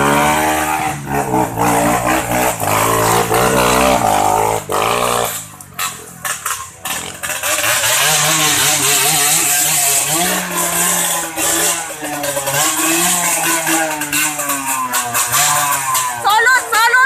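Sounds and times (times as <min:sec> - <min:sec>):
vehicle engine labouring: 0:00.0 - 0:17.0.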